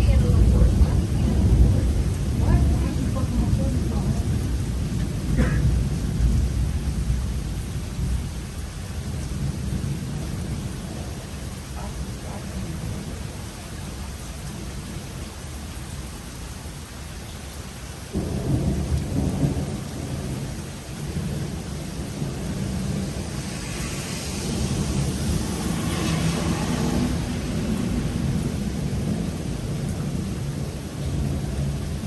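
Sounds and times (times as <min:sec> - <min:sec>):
thunder rumbling: 0:00.0 - 0:15.0, 0:18.1 - 0:32.0
steady rain: 0:00.0 - 0:32.0.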